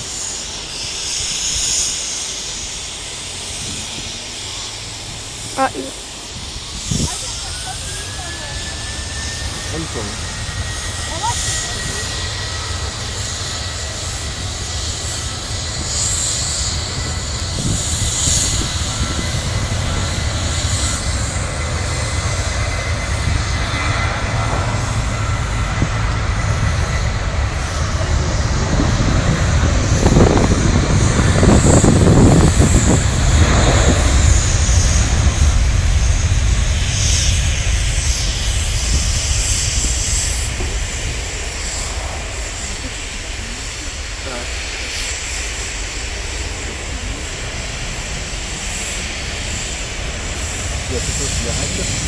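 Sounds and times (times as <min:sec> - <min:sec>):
jet engines roaring: 0:00.0 - 0:52.0.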